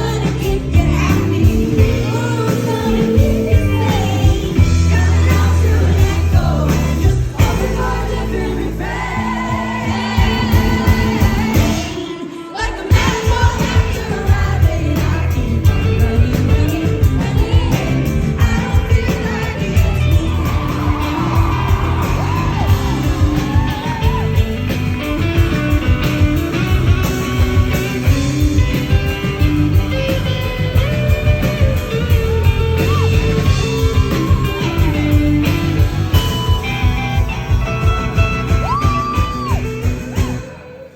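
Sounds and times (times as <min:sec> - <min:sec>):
live folk-rock band playing: 0:00.0 - 0:40.9.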